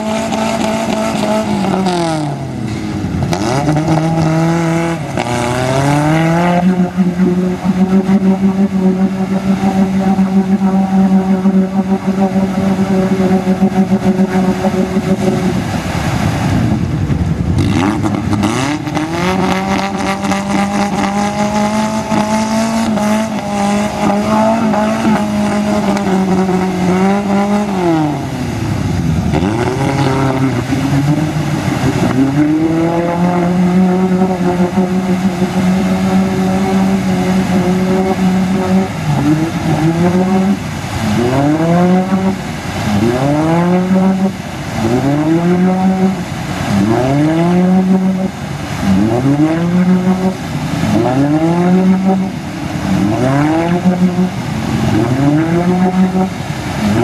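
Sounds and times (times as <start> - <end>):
engine revving hard: 0.0 - 16.4, 17.6 - 28.5, 29.2 - 57.0
tyres throwing mud and water: 0.0 - 57.0.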